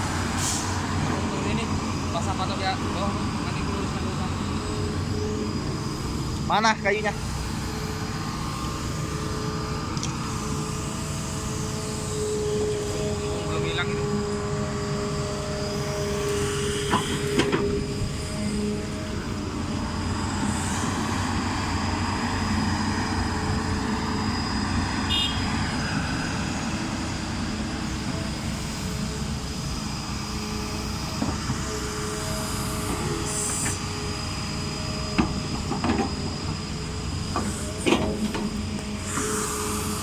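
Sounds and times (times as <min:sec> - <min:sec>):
diesel machinery running: 0:00.0 - 0:40.0.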